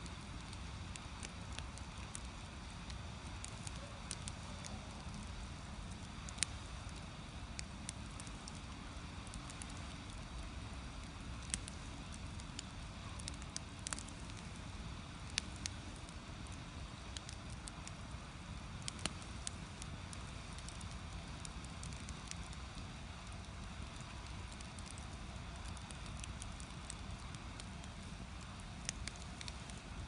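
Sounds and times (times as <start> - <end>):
firewood crackling and popping: 0.0 - 30.0.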